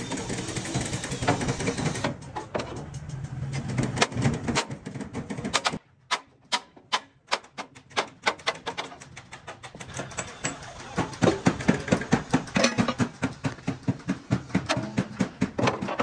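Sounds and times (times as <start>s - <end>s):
workshop noise: 0.0s - 16.0s.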